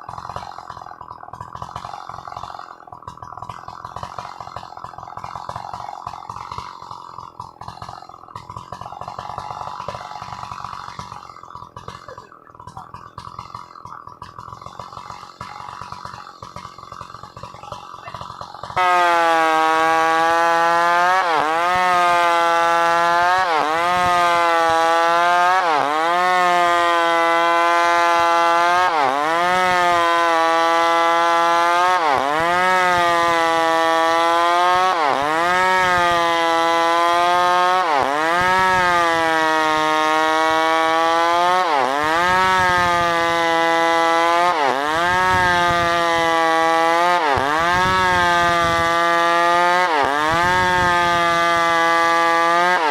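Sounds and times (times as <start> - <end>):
chainsaw cutting at high revs: 0.0 - 52.9.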